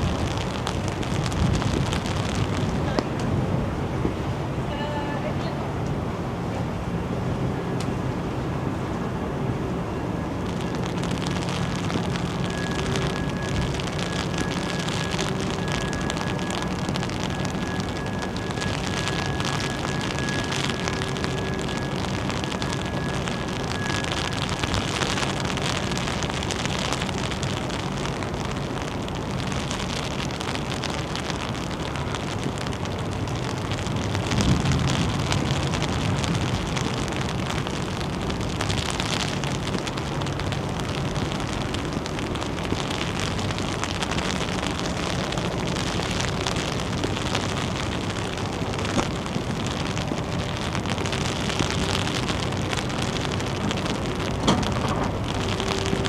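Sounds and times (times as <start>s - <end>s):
faint high whine: 0.0s - 56.0s
low hum of engines: 0.0s - 56.0s
low rumble: 0.0s - 56.0s
rain and wind hissing: 0.0s - 56.0s.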